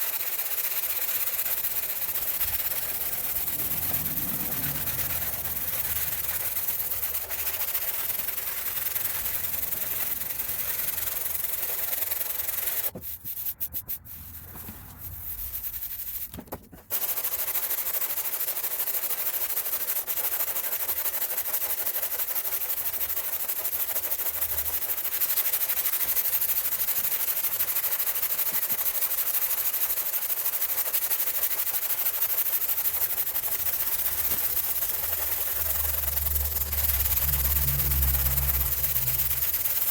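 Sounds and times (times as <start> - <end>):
sanding on metal bodywork: 0.0 - 39.9.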